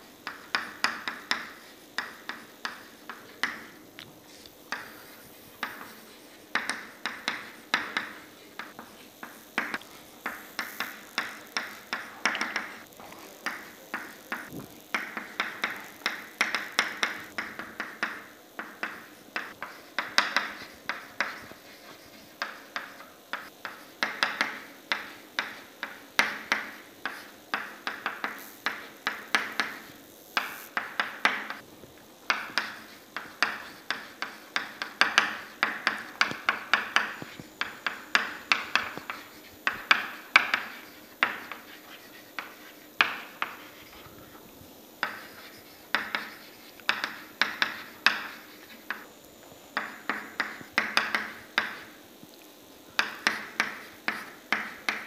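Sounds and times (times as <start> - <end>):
chalk tapping on chalkboard: 0.2 - 31.6, 32.3 - 44.4, 45.0 - 49.1, 49.8 - 52.0, 53.0 - 55.0.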